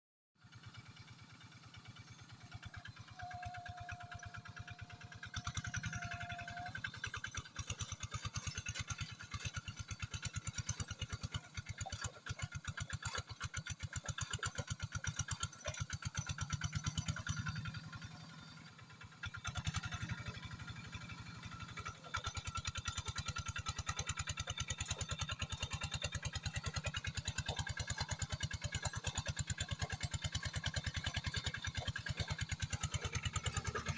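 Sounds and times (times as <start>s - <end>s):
tractor engine running: 0.4s - 33.9s.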